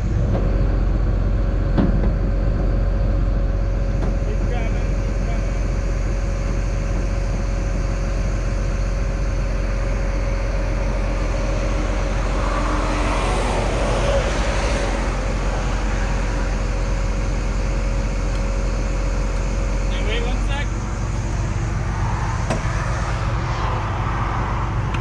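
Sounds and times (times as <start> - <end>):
excavator diesel engine running: 0.0 - 25.0
hydraulics working: 0.0 - 25.0.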